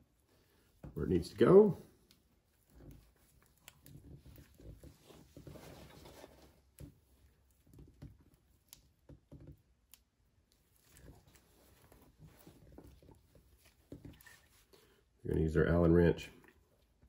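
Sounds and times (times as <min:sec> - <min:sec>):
gloved hands rustling and scraping: 0:00.0 - 0:17.0.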